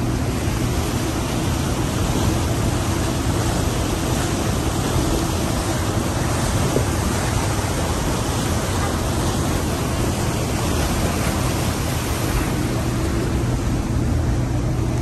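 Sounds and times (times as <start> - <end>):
boat engine hum: 0.0 - 15.0
water rushing along boat hull: 0.0 - 15.0.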